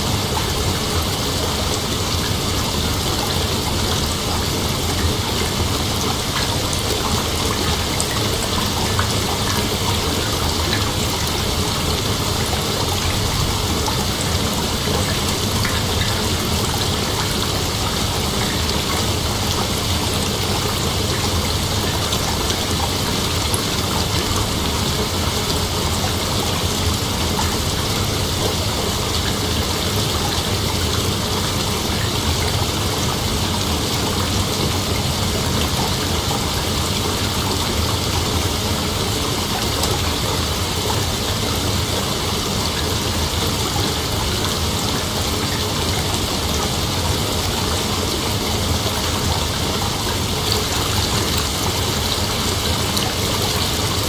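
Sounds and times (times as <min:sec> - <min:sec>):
hiss like running water: 0:00.0 - 0:54.0.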